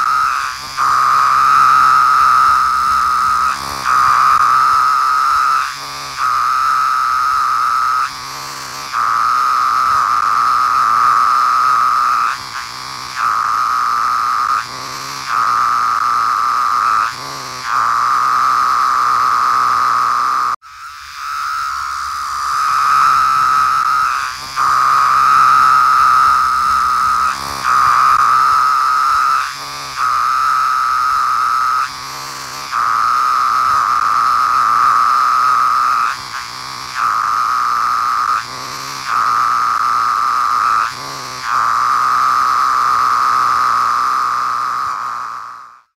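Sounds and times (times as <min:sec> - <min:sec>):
cicadas buzzing loudly: 0:00.0 - 0:45.9.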